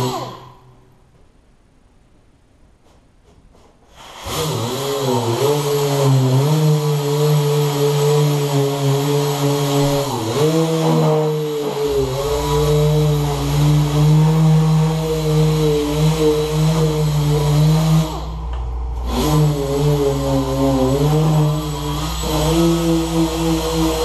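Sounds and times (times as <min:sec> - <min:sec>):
pneumatic sander running: 0:00.0 - 0:00.6, 0:04.0 - 0:24.0.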